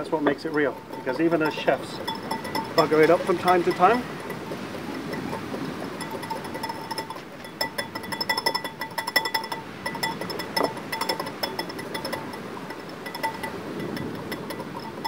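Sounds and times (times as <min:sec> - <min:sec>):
utensil clinking against bowl: 0:00.0 - 0:15.0.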